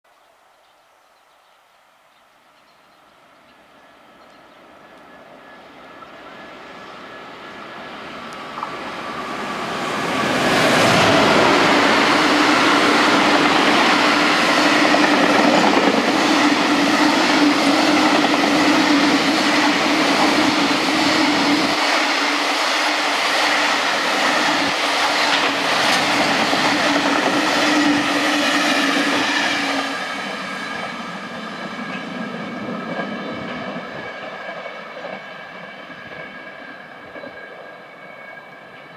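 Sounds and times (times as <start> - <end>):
electric locomotive passing: 2.5 - 38.9.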